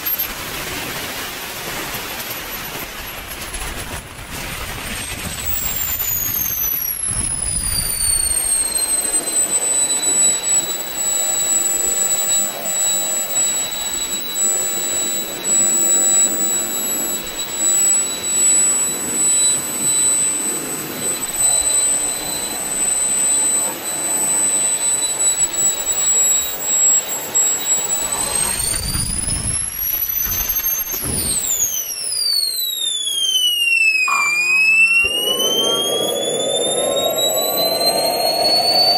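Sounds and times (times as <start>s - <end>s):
rushing jet exhaust: 0.0s - 32.2s, 34.0s - 38.9s
jet turbine high-pitched whine: 0.0s - 38.9s.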